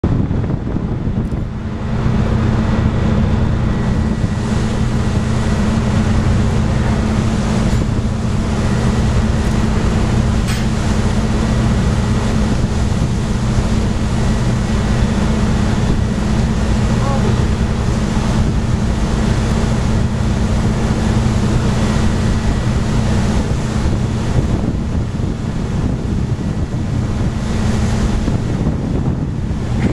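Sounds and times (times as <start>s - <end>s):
low hum: 0.0s - 29.9s
wind on microphone: 0.0s - 29.9s.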